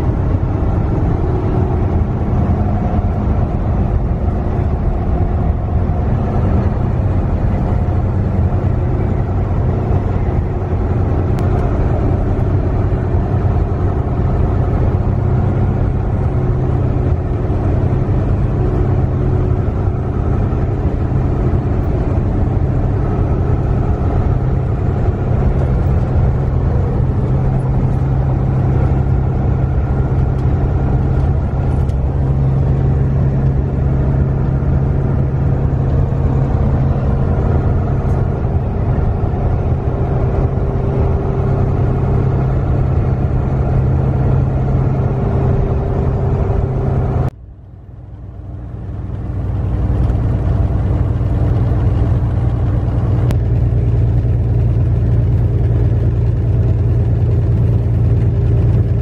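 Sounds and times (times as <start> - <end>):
truck engine and road noise: 0.0 - 59.0.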